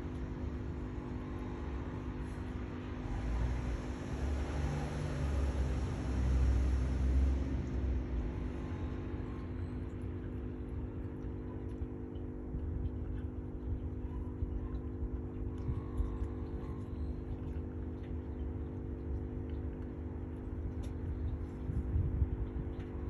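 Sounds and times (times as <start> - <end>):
deep rumble: 0.0 - 23.0
low mechanical hum: 0.0 - 23.0.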